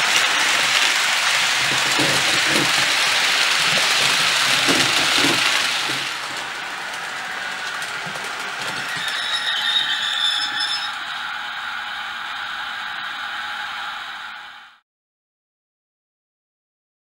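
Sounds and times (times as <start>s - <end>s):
model locomotive engine sound: 0.0s - 14.8s
model train wheels on track: 0.0s - 14.8s.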